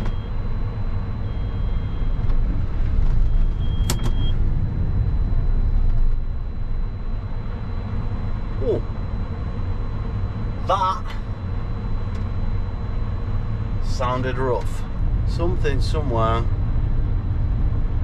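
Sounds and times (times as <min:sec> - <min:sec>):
long high beeps: 0:00.0 - 0:14.6
harvester engine rumble: 0:00.0 - 0:18.0.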